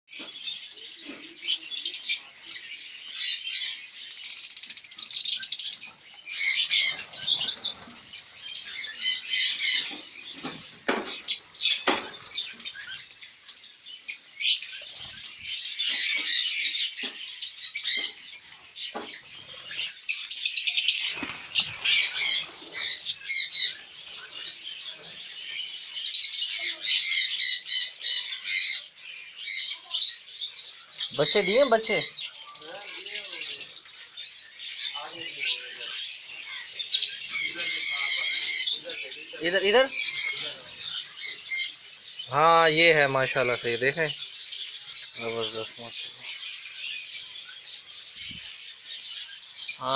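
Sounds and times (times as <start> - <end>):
birds chattering and chirping: 0.1 - 49.9.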